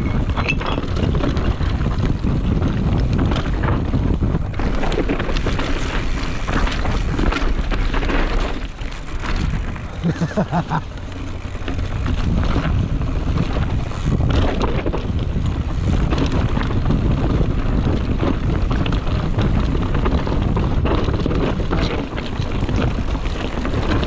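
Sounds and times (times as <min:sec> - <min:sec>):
bike rattling over rocks: 0:00.0 - 0:24.0
tyres rolling over dirt: 0:00.0 - 0:24.0
wind buffeting microphone: 0:00.0 - 0:24.0.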